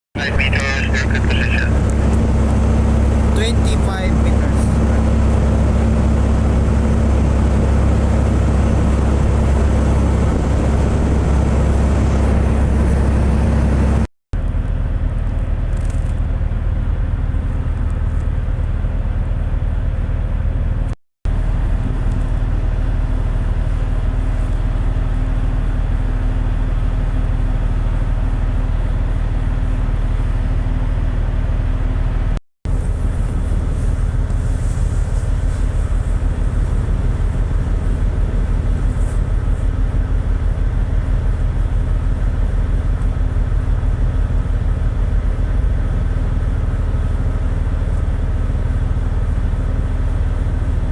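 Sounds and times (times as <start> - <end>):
ship engine low drone: 0.2 - 50.9.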